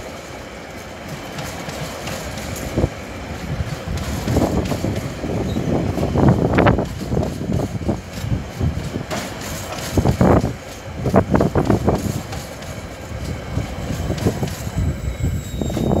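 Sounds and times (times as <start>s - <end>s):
freight train rumbling past: 0.0s - 16.0s
train wheels clacking: 0.0s - 16.0s.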